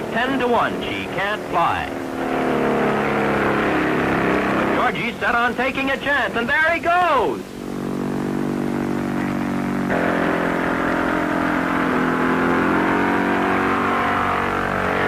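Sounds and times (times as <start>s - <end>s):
propeller airplane engine: 0.0s - 6.5s, 7.2s - 15.0s.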